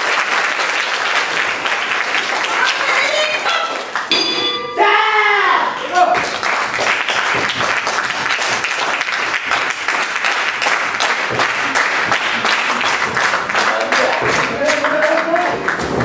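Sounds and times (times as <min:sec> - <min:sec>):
audience applauding: 0:00.0 - 0:04.2, 0:05.8 - 0:16.0.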